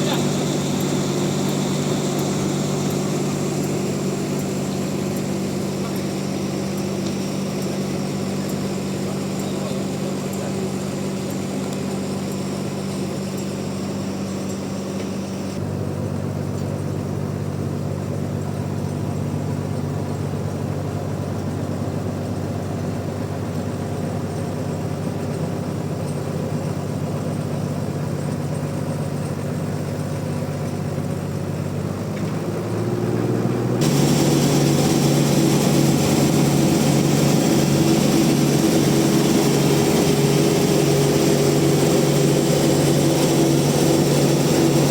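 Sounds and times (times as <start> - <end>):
heavy engine running: 0.0 - 44.9.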